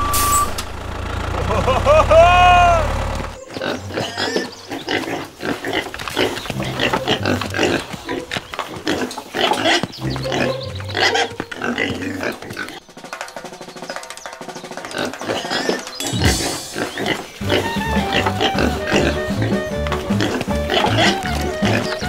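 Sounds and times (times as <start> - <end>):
pigs grunting: 1.4 - 12.8, 14.8 - 22.0.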